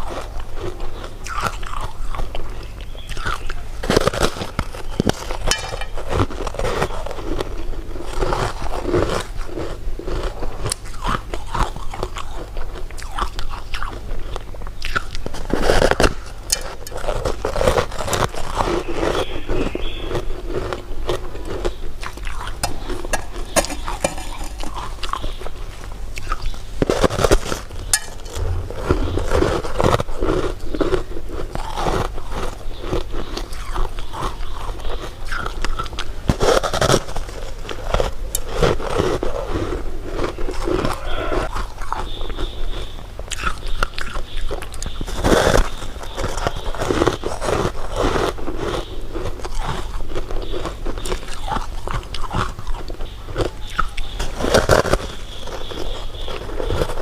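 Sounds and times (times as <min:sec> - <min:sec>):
person biting and chewing: 0:00.0 - 0:57.0.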